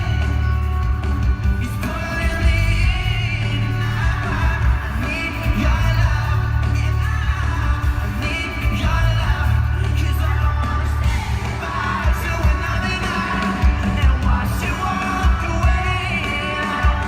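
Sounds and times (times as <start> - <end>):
live pop-rock band with singing: 0.0 - 17.0.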